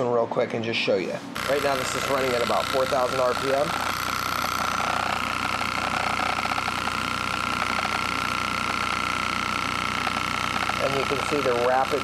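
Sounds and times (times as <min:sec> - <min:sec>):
engine driven by motor whining: 0:01.4 - 0:12.0.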